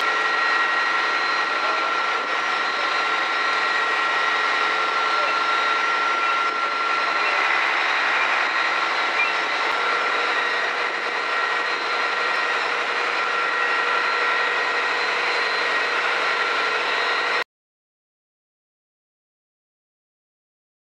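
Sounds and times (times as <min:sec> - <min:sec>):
engine drone: 0:00.0 - 0:17.4
high whining tones: 0:00.0 - 0:17.4.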